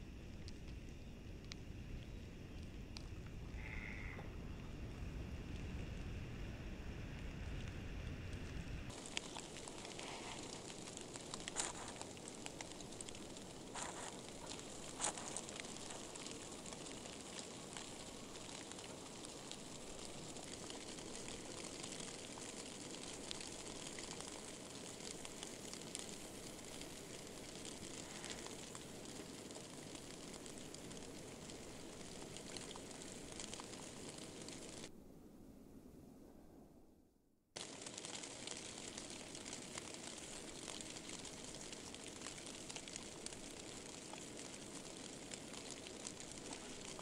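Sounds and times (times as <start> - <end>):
steady hiss of falling snow: 0.0 - 34.9, 37.6 - 47.0.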